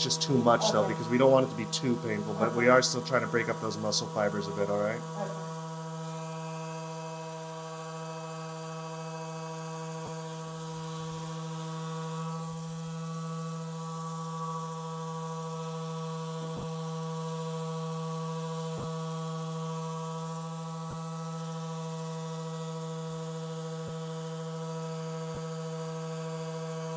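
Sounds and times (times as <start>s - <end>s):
vibration massager humming: 0.0s - 26.9s.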